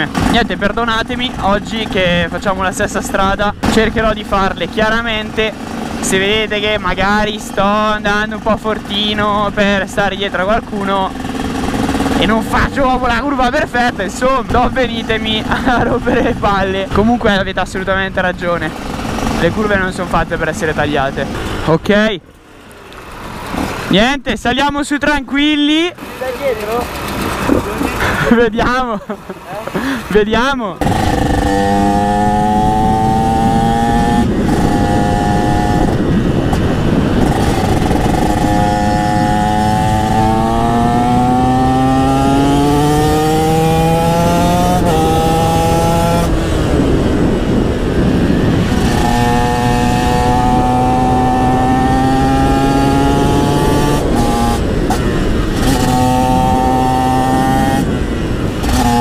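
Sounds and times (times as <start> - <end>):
wind rushing over microphone: 0.0 - 22.2, 29.8 - 59.0
motorcycle engine accelerating: 0.0 - 24.0, 25.9 - 59.0.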